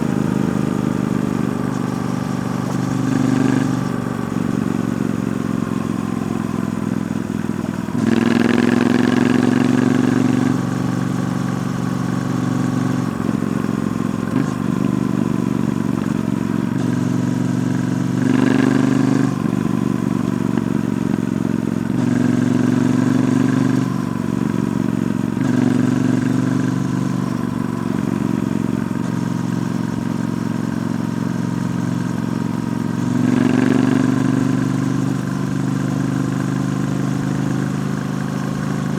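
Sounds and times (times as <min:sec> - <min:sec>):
motorcycle exhaust: 0:00.0 - 0:38.9.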